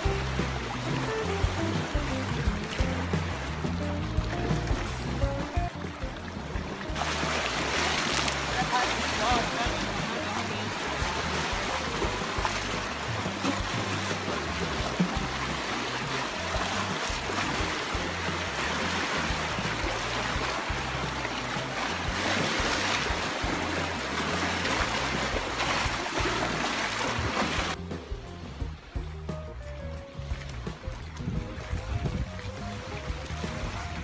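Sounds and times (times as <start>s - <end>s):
waves splashing against rocks: 0.0s - 29.0s.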